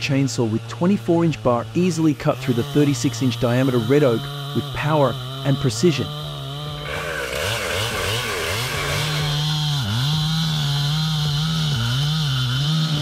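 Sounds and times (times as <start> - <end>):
chainsaw cutting log: 0.4 - 13.0.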